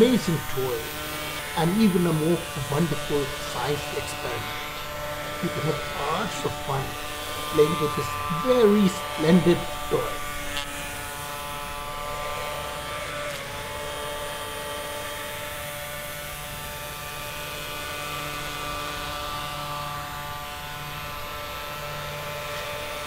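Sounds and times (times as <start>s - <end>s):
toy motor electric hum: 0.0s - 23.0s.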